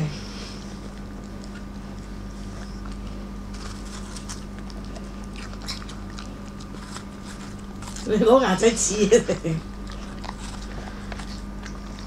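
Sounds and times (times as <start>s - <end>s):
steady low hum: 0.0s - 12.0s
dog crunching pear: 0.7s - 12.0s.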